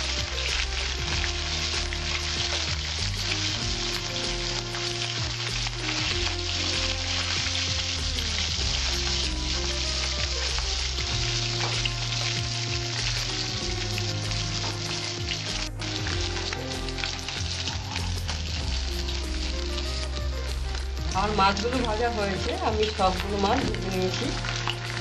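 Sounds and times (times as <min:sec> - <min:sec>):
fish sizzling in hot oil: 0:00.0 - 0:25.0
metal spatula turning fish: 0:00.1 - 0:25.0.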